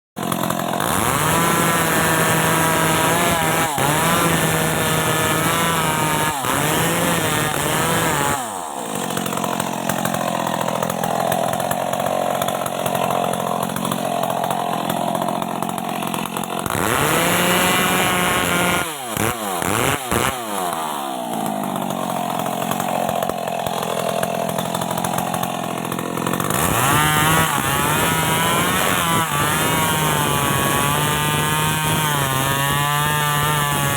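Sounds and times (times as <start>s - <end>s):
chainsaw running at high revs: 0.2s - 33.9s.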